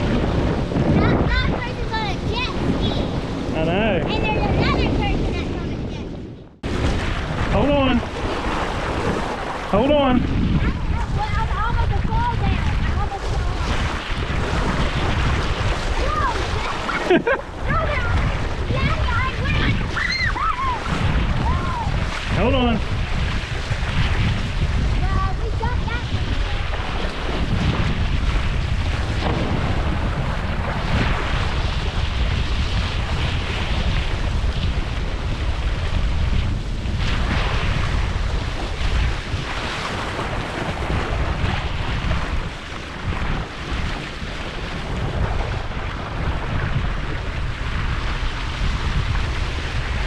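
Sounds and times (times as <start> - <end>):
water splashing and rushing: 0.0 - 50.0
wind buffeting microphone: 0.0 - 50.0.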